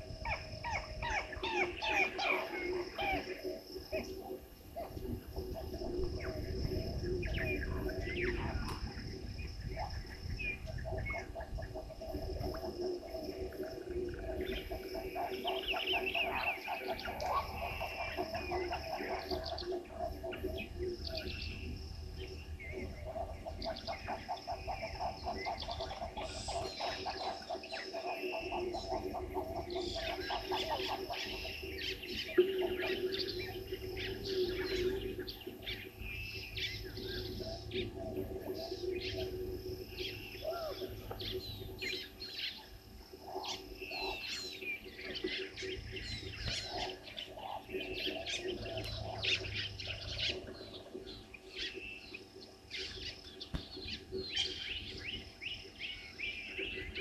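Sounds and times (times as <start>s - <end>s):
birds calling and chirping: 0.0s - 57.0s
low steady hum: 0.0s - 57.0s.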